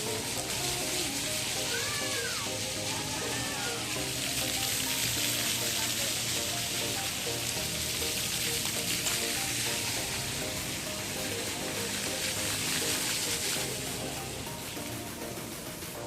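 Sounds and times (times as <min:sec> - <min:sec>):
fountain water splashing: 0:00.0 - 0:16.0
music playing: 0:00.0 - 0:16.0.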